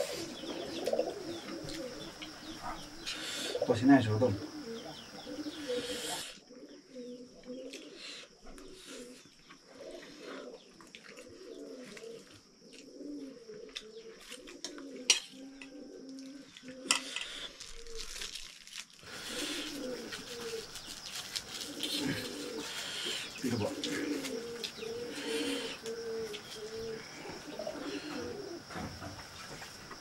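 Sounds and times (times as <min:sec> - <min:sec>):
pigeons cooing: 0:00.0 - 0:18.2, 0:19.1 - 0:30.0.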